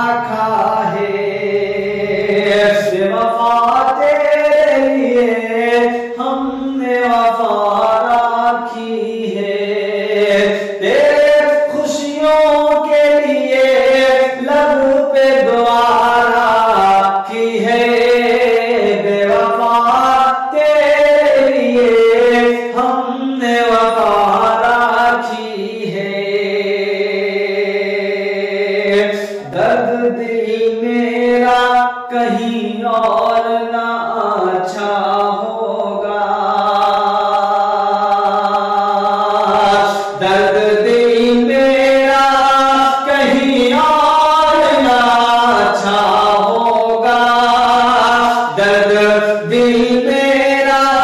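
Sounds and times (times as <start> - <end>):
man singing slow melody: 0.0 - 51.0.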